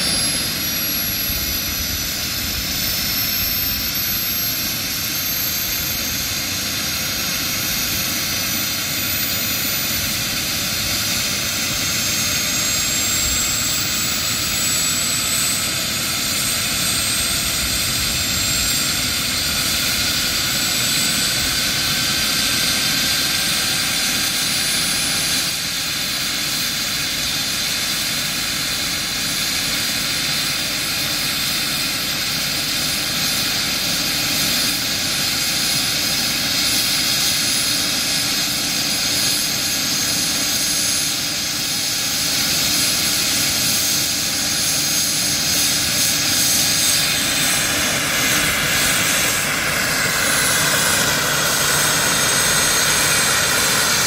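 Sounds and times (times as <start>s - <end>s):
model helicopter rotor whine: 0.0s - 54.0s.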